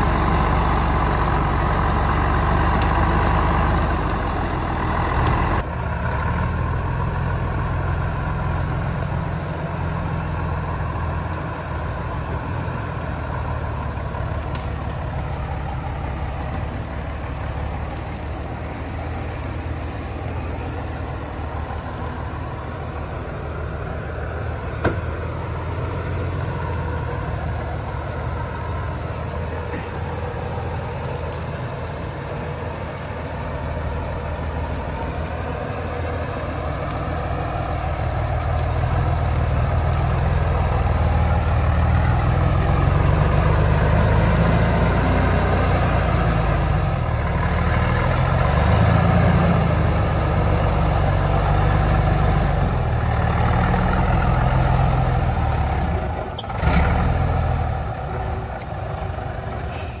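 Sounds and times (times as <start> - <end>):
truck engine rumbling: 0.0 - 60.0.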